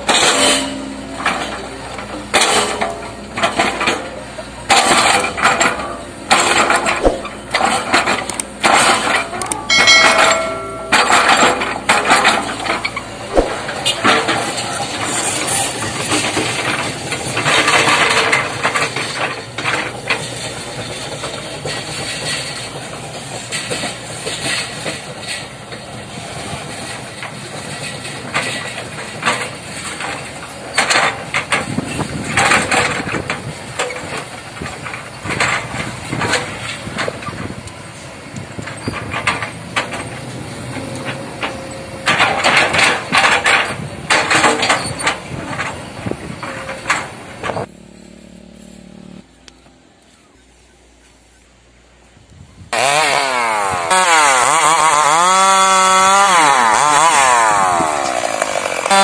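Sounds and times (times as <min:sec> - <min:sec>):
diesel engine running under load: 0:00.0 - 0:55.3.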